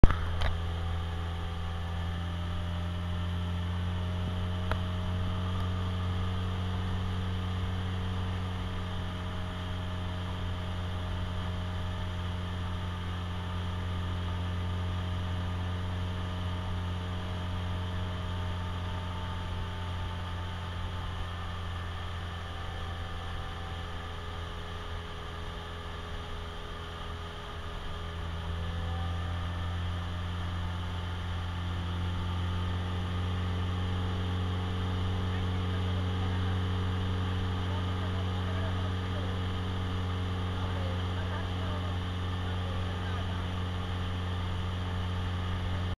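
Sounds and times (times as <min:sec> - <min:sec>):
boat engine humming: 0:00.0 - 0:45.9.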